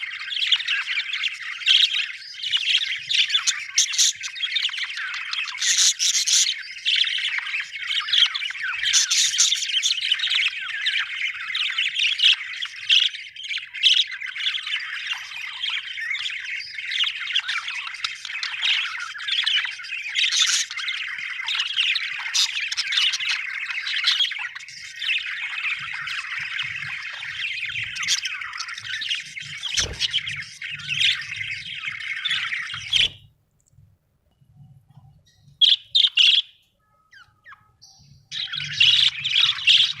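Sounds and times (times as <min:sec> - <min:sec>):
budgerigars chattering and chirping: 0:00.0 - 0:33.3, 0:35.3 - 0:40.0.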